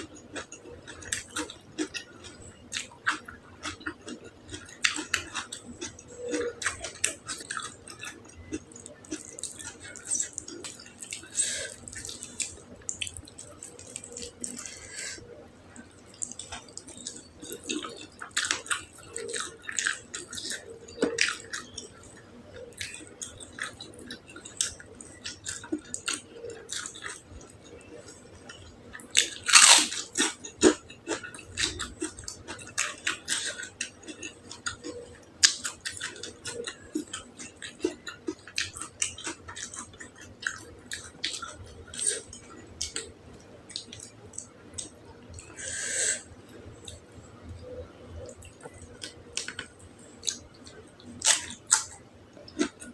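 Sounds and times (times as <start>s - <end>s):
close chewing with mouth clicks: 0.0s - 52.9s.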